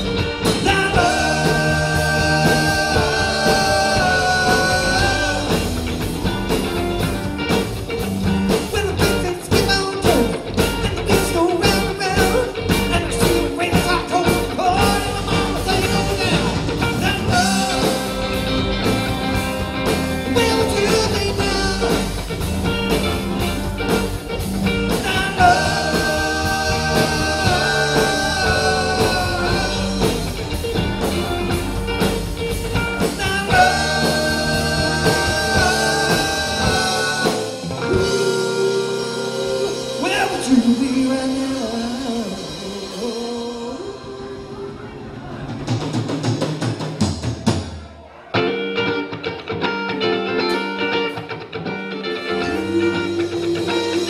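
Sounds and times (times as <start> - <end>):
steady drum beat: 0.0 - 43.4
electric guitar: 0.0 - 47.2, 48.3 - 54.0
rock and roll band playing: 0.0 - 54.0.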